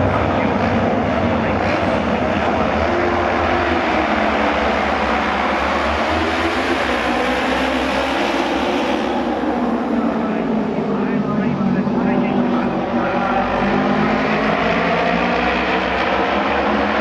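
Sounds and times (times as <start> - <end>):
racing motorcycle engines accelerating: 0.0 - 17.0.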